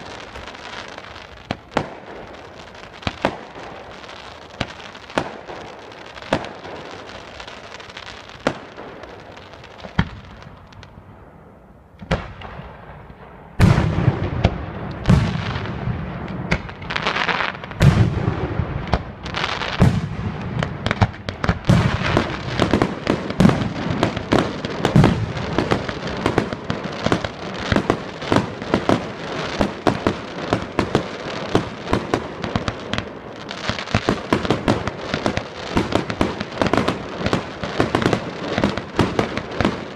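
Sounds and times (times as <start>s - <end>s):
firework pops and crackles: 0.0s - 11.1s, 12.0s - 39.9s.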